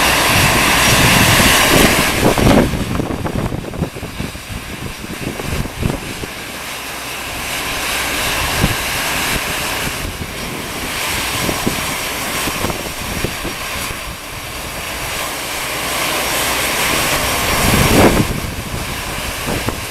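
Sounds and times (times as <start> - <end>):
jet engines taxiing: 0.0 - 19.9.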